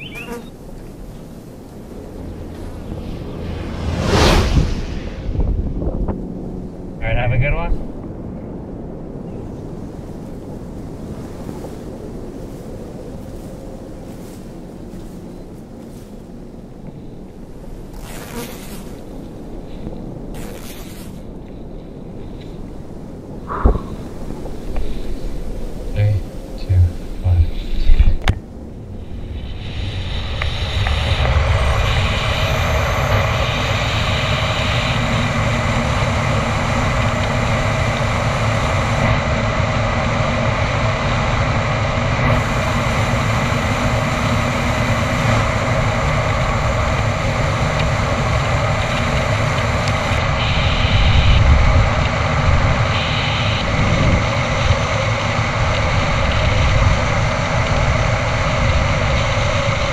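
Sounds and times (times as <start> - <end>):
wind roar on microphone: 0.0 - 59.9.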